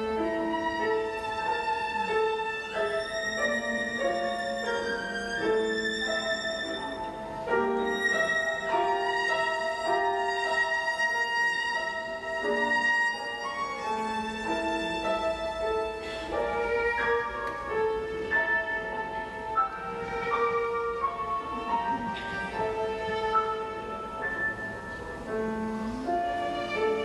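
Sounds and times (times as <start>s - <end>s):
piano accompaniment: 0.0s - 27.0s
violin slow melody: 0.0s - 27.0s.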